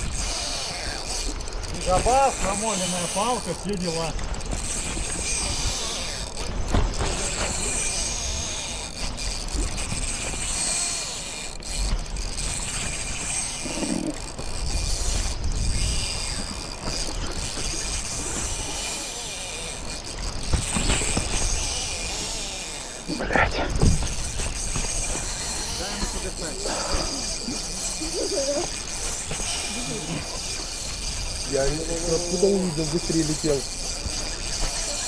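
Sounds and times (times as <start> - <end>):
fishing reel working under load: 0.0 - 35.0.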